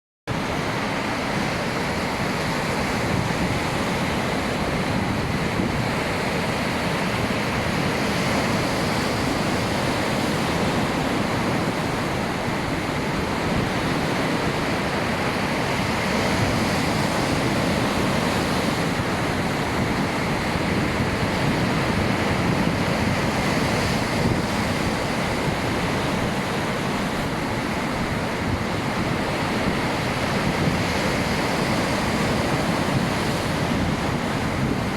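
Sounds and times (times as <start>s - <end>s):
waves washing: 0.3s - 34.9s
wind noise on microphone: 0.3s - 34.9s.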